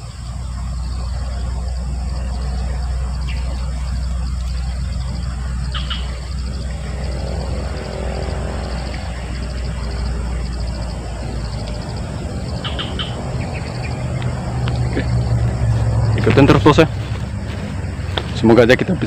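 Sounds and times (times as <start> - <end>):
rapid high pulsing: 0.0 - 19.0
steady low rumble: 0.0 - 19.0.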